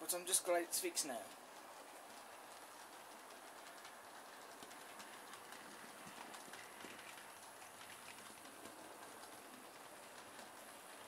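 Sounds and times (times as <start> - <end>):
model train wheels clicking: 0.0 - 11.0.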